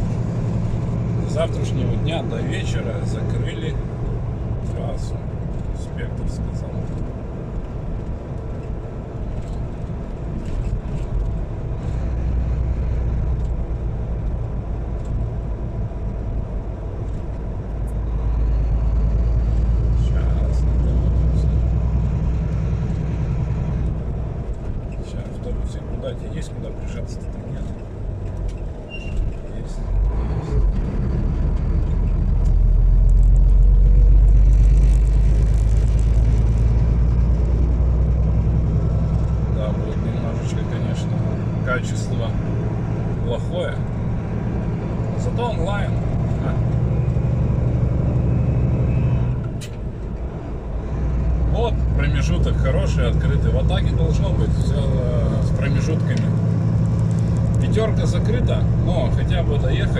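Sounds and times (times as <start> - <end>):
truck engine rumble in cab: 0.0 - 59.9.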